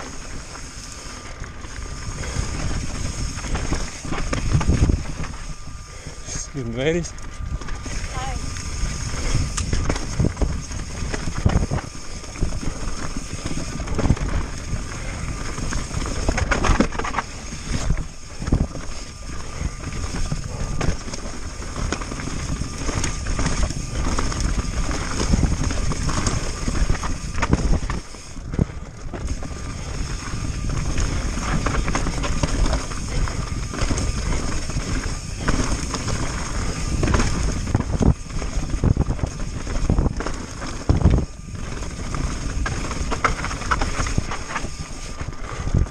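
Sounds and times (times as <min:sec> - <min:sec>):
tyres rolling over loose rock: 0:00.0 - 0:05.6, 0:07.6 - 0:45.9
bike clattering: 0:00.0 - 0:45.9
wind rush on microphone: 0:00.0 - 0:45.9.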